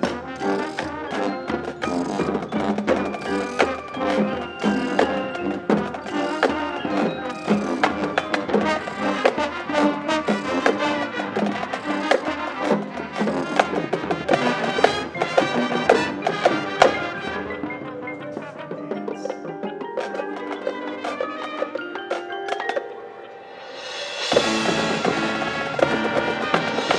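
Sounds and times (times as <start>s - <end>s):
brass chords: 0.0s - 19.5s, 20.6s - 22.2s, 23.0s - 26.9s
percussion hits: 0.0s - 26.9s.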